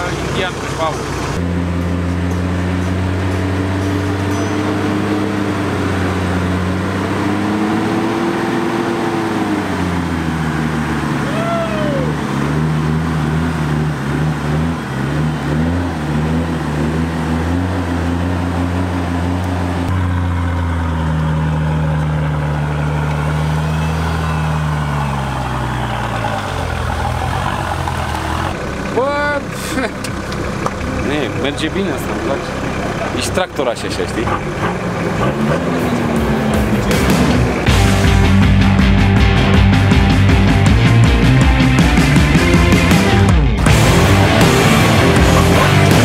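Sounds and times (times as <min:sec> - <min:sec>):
engine revving under load: 0:00.0 - 0:46.0.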